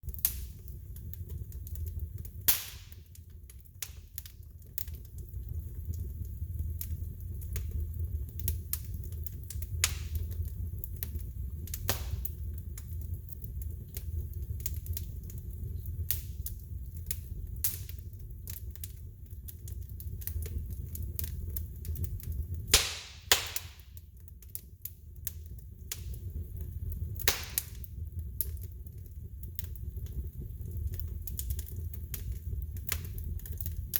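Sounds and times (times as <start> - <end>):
sharp pops of burning wood: 0.0 - 33.9
wood fire crackling: 0.0 - 33.9.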